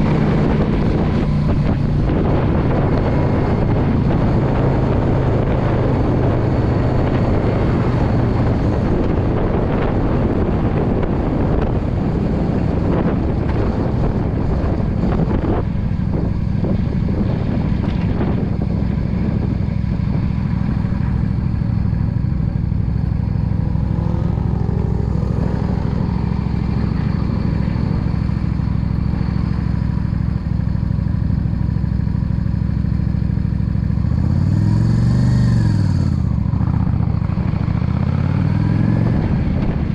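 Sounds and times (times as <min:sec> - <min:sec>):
wind on microphone: 0:00.0 - 0:30.4, 0:34.2 - 0:39.9
motorcycle engine running: 0:00.0 - 0:39.9.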